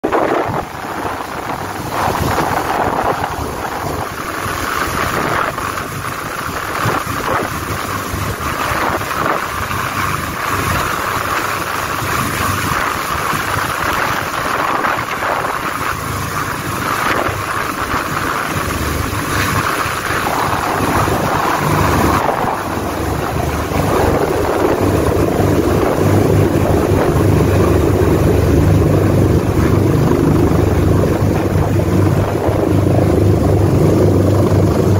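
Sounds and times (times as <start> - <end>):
helicopter rotor and engine: 0.0 - 34.9
wind buffeting microphone: 0.0 - 34.9.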